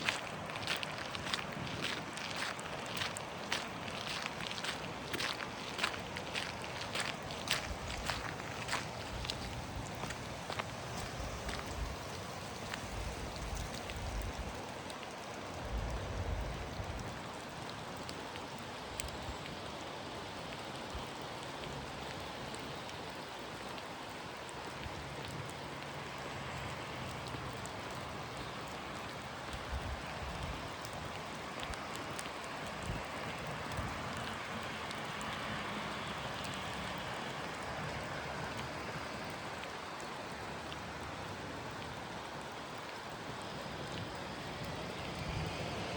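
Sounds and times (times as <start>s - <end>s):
raindrop ticks: 0.0s - 45.9s
steady rain falling: 0.0s - 45.9s.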